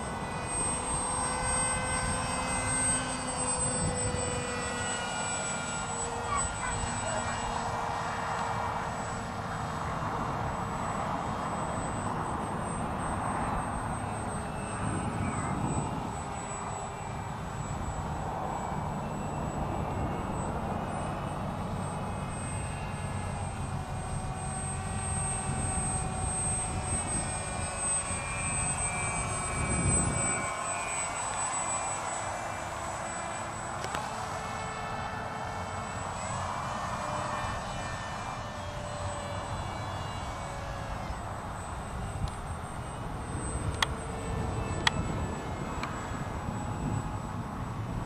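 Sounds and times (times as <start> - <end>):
model plane propeller buzzing: 0.0 - 48.0.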